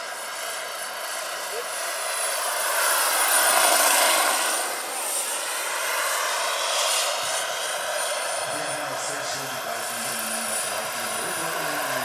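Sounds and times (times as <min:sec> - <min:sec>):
gas turbine whine: 0:00.0 - 0:12.0
helicopter rotors rushing: 0:00.0 - 0:12.0.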